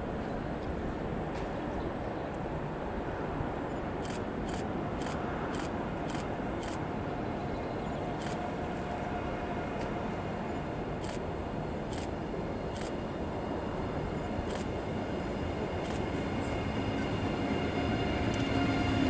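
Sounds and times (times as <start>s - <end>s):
railway station rumble: 0.0s - 19.0s.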